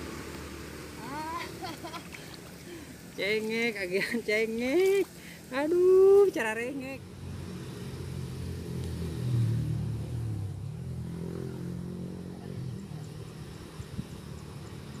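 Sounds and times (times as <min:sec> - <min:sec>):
vehicle engine passing by: 0:00.0 - 0:15.0.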